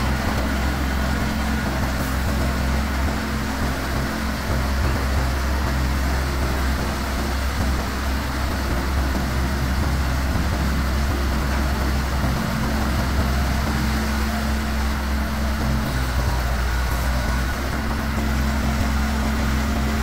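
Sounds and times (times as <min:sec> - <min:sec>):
heavy diesel engines droning: 0:00.0 - 0:20.0.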